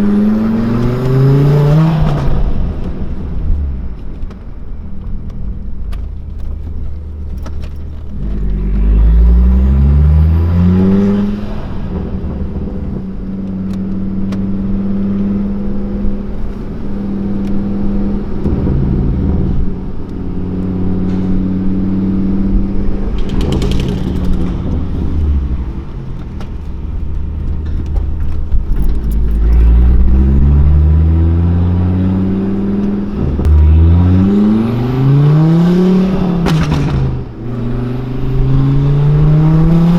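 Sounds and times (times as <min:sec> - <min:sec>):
car engine revving: 0:00.0 - 0:04.6, 0:05.4 - 0:39.9.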